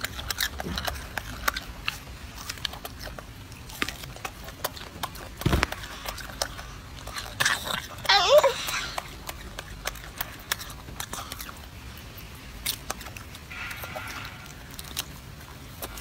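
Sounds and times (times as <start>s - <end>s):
monkey chewing wet clicks: 0.0s - 16.0s.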